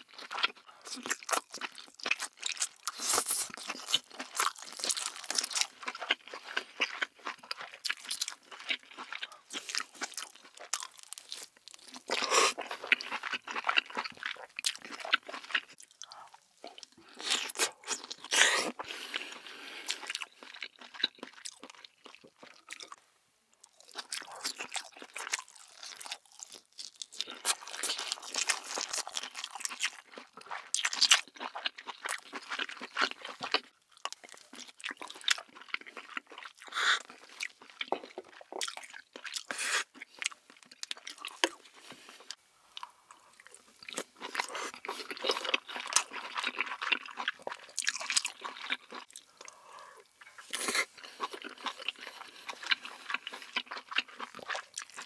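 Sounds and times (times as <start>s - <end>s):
chewing with wet clicks: 0.0s - 23.0s, 23.6s - 55.0s.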